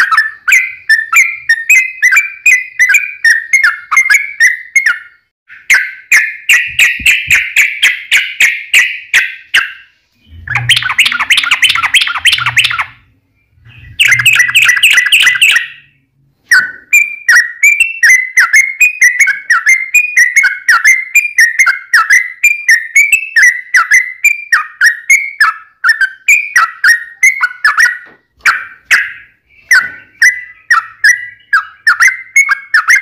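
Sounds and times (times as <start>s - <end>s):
bird singing whistled notes: 0.0s - 33.0s.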